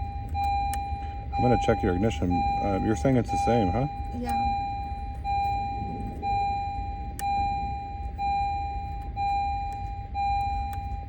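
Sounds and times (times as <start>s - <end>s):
car warning chime beeping: 0.0s - 11.0s
low steady rumble: 0.0s - 11.0s.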